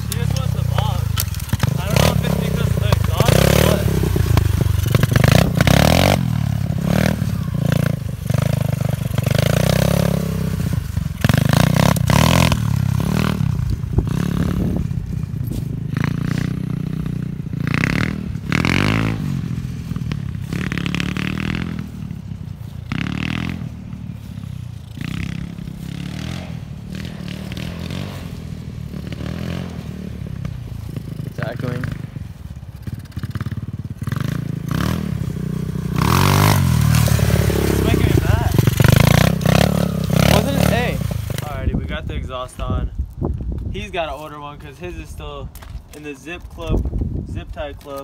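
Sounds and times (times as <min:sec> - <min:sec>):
pit bike engine revving: 0:00.0 - 0:42.8.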